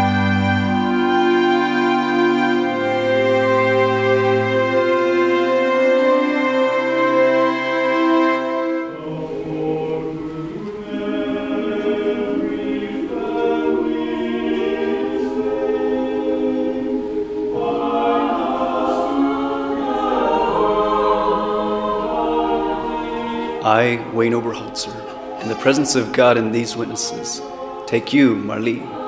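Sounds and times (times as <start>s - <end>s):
choir singing a cappella: 0.0s - 29.0s.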